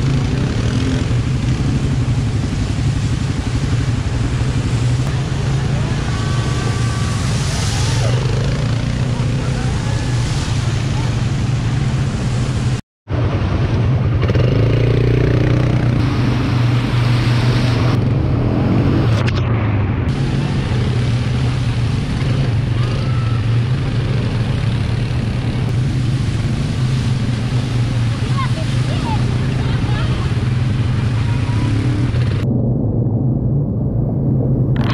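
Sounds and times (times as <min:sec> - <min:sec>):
road and wind noise: 0:00.0 - 0:34.9.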